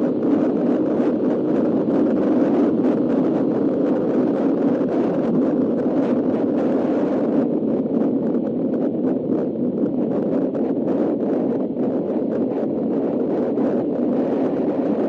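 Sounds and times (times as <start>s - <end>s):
wind rush over microphone: 0.0s - 15.0s.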